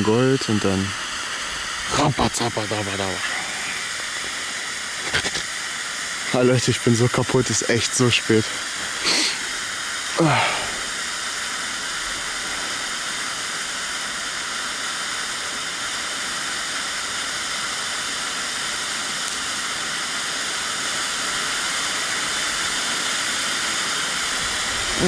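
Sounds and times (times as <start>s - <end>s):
firework fountain hissing: 0.0s - 25.0s.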